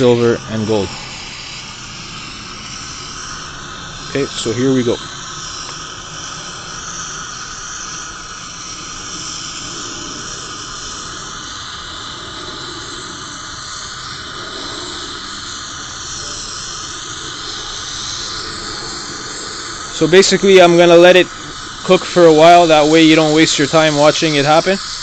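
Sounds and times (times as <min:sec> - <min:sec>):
torch flame hissing: 0:00.0 - 0:25.0.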